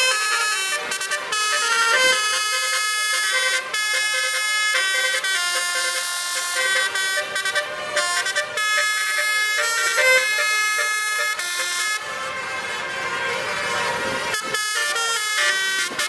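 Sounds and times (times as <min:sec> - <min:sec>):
truck horn playing a tune: 0:00.0 - 0:16.0.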